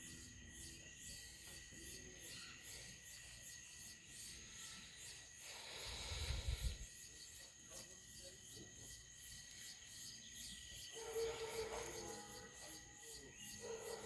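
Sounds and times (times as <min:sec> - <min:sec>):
high insect drone: 0:00.0 - 0:14.0
insects chirping: 0:00.0 - 0:14.0.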